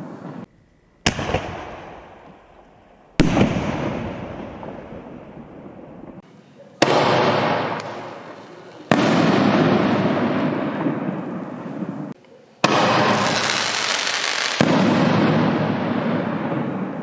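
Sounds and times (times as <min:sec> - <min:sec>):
firework shells bursting: 0:00.0 - 0:06.2, 0:06.8 - 0:17.0.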